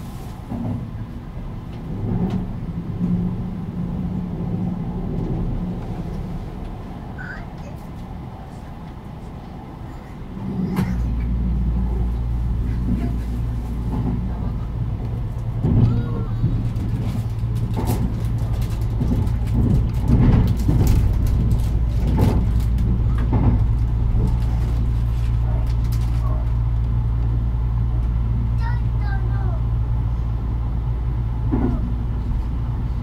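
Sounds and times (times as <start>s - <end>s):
electric train rumble and hum: 0.0s - 33.0s.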